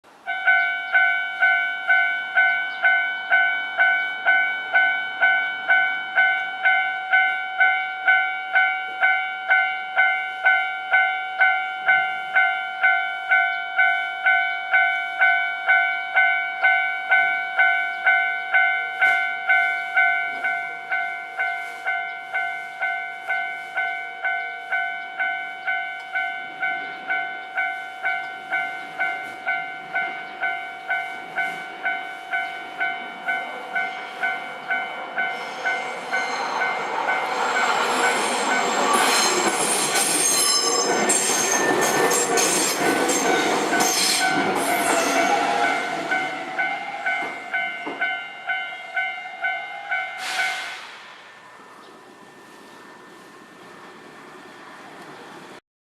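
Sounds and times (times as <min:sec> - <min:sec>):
level crossing warning bell ringing: 0:00.3 - 0:50.7.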